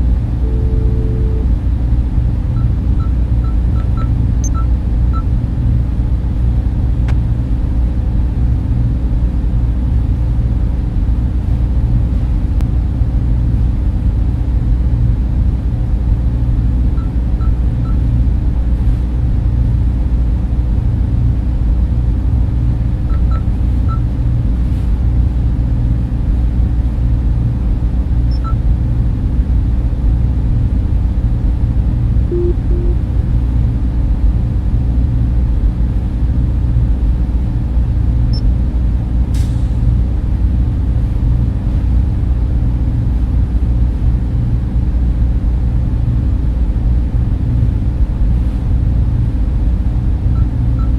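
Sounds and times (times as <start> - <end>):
server and cooling fans humming: 0.0 - 39.2, 40.6 - 50.9.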